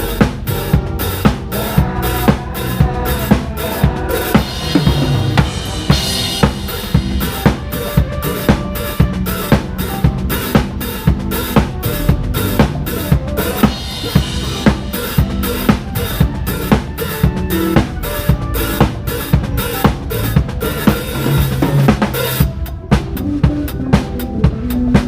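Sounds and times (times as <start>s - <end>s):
drum kit kick and snare: 0.0s - 25.0s
live band playing pop song: 0.0s - 25.0s.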